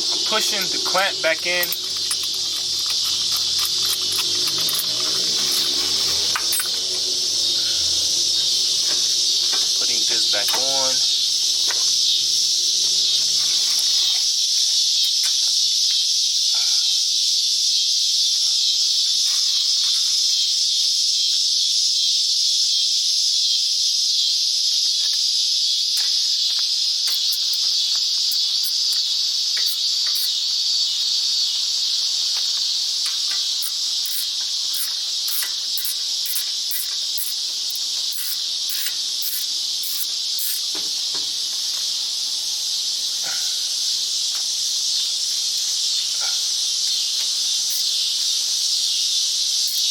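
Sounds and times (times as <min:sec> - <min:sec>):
insects buzzing: 0:00.0 - 0:49.9.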